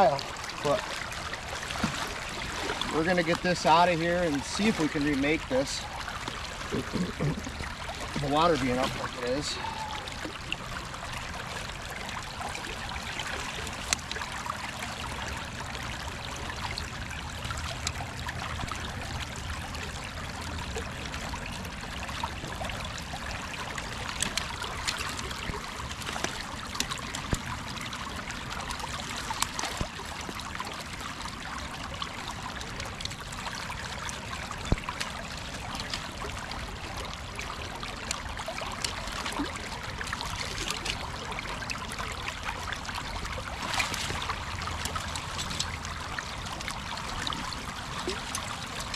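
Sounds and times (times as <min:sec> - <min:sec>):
creek water running: 0:00.0 - 0:48.9
sharp clicks and splashes: 0:00.0 - 0:48.9.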